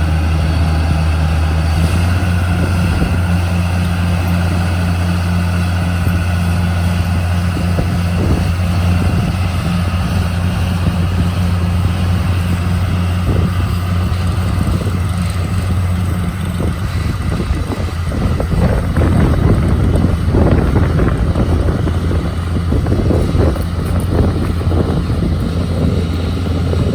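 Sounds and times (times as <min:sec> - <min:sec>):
engine humming: 0:00.0 - 0:26.9
rough loud noise: 0:00.0 - 0:26.9.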